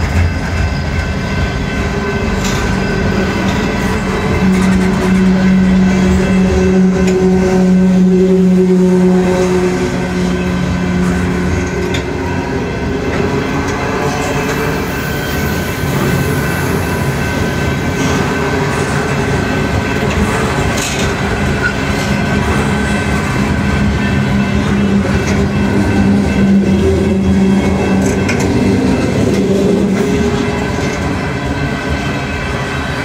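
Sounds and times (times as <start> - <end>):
freight train wheels rumbling and clacking: 0.0 - 33.0.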